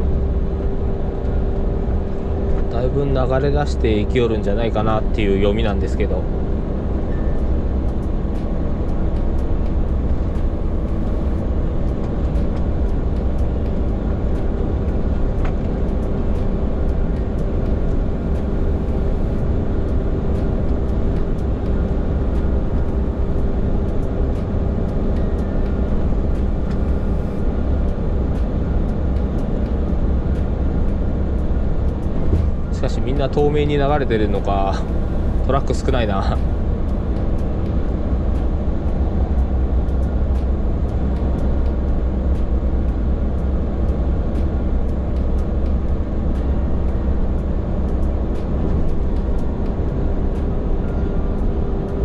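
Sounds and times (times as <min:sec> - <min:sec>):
road noise: 0:00.0 - 0:52.0
truck engine drone: 0:00.0 - 0:52.0.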